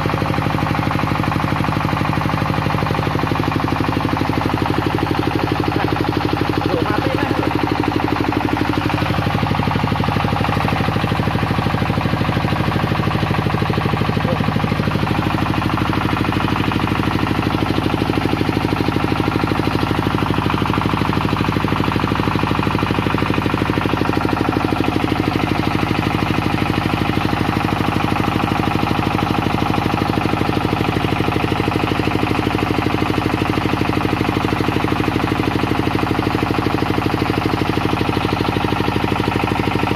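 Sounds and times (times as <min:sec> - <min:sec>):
diesel generator engine knocking: 0:00.0 - 0:39.9.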